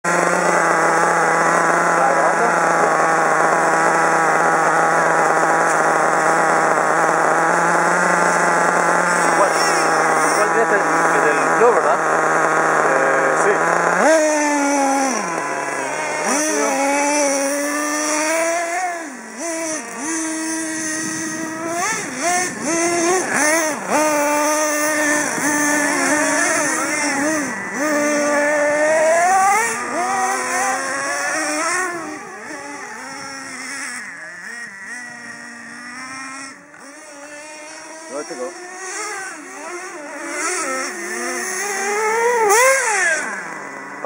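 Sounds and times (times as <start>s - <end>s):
toy car nitro engine revving: 0.1s - 44.0s.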